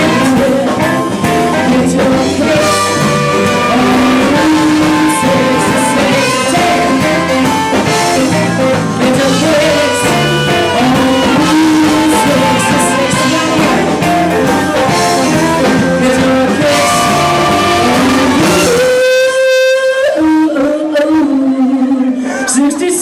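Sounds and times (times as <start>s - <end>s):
drum kit with crashing cymbals: 0.0s - 19.3s
electric bass: 0.0s - 19.8s
electric guitar: 0.0s - 23.0s
woman singing lead: 0.0s - 23.0s.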